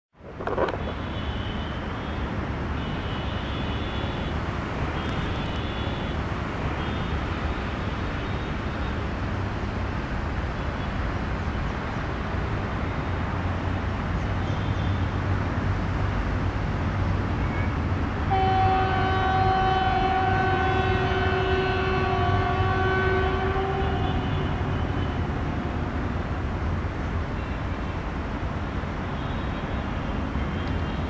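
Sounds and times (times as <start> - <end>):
train rumbling: 4.4 - 31.0.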